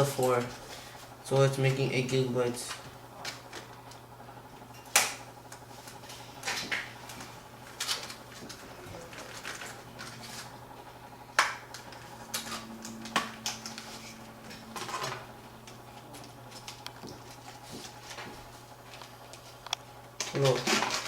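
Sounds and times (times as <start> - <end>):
low hum: 0.0 - 20.2.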